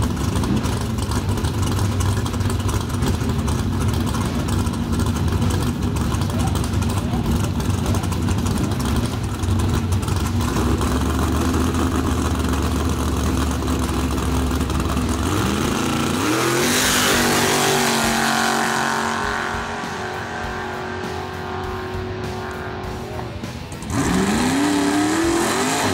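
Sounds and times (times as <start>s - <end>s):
truck engine revving: 0.0s - 25.9s.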